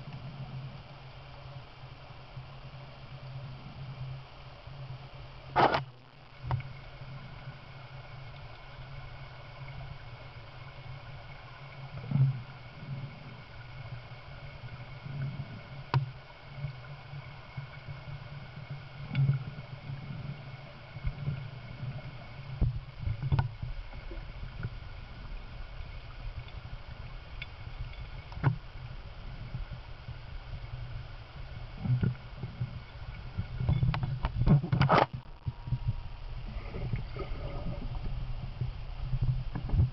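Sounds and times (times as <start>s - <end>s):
underwater low hum: 0.0s - 39.9s.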